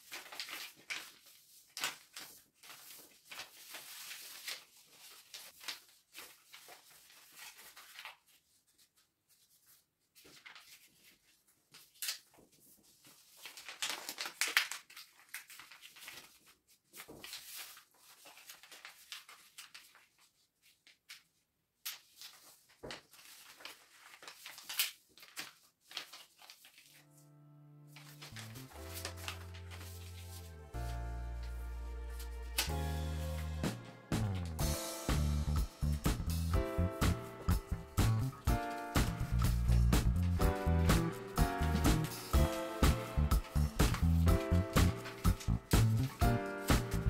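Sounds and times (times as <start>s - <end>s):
paper being folded and creased: 0.0s - 27.2s, 27.9s - 33.6s, 37.0s - 47.0s.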